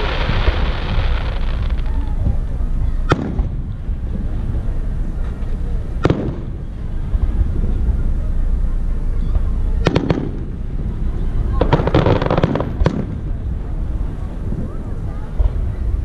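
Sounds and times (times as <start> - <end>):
fireworks bangs: 0.0 - 16.0
low rumble: 0.0 - 16.0.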